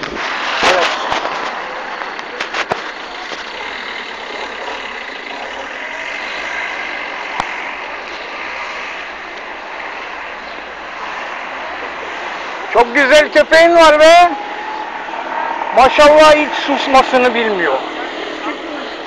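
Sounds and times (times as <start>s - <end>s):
distant traffic hiss: 0.0s - 19.0s.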